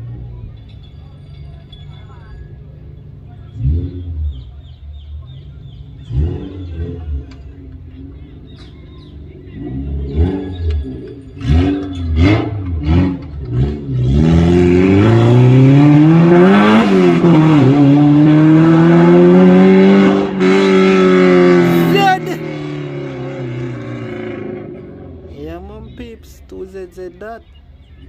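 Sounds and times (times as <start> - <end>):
car engine revving: 2.7 - 26.0.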